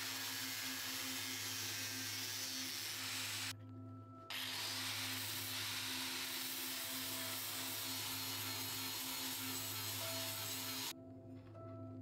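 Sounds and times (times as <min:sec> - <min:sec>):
angle grinder grinding metal: 0:00.0 - 0:03.5, 0:04.3 - 0:10.9.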